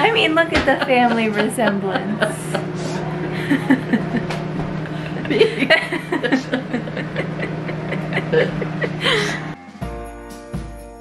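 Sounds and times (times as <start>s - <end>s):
steady low hum: 0.0s - 9.6s
women laughing: 0.1s - 9.6s.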